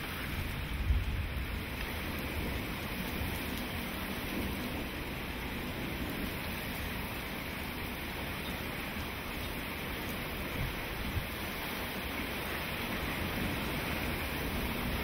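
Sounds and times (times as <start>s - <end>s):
rain on wet pavement: 0.0s - 15.0s.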